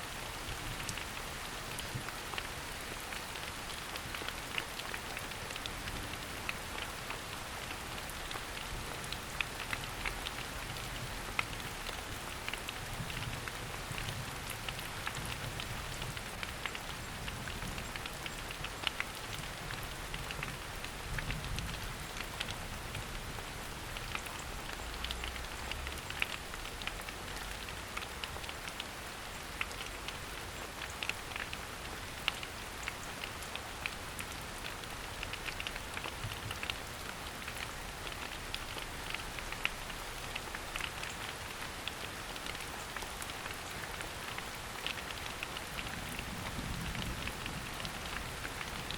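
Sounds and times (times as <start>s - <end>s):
rain dripping on leaves: 0.0s - 48.9s.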